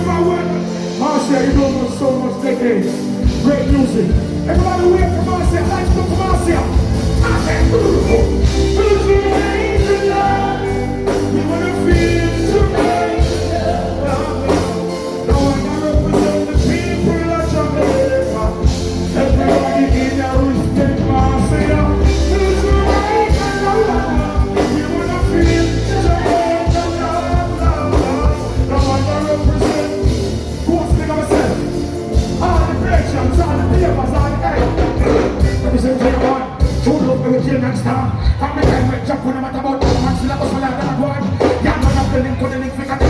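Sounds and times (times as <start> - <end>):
live band music: 0.0 - 43.0
person singing: 0.0 - 43.0
heavy bass line: 3.1 - 43.0.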